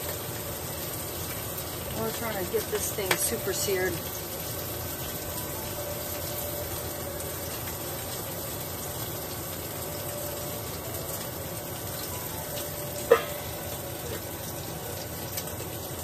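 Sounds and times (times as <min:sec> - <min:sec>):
steak sizzling in a pan: 0:00.0 - 0:16.0.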